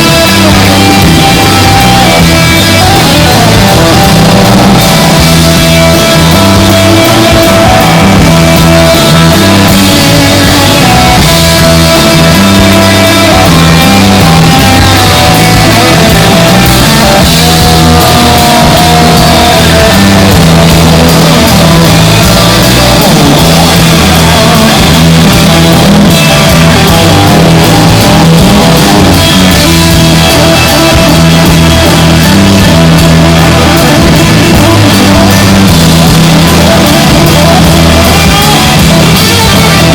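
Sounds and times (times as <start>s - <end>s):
bass line: 0.0s - 39.9s
guitar: 0.0s - 39.9s
rock band playing loudly: 0.0s - 39.9s.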